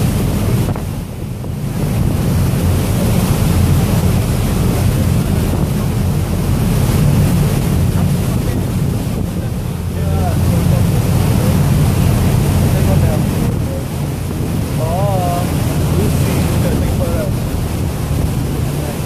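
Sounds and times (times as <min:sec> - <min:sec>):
low ferry engine rumble: 0:00.0 - 0:19.0
water rushing past hull: 0:00.0 - 0:19.0
wind buffeting microphone: 0:00.0 - 0:19.0.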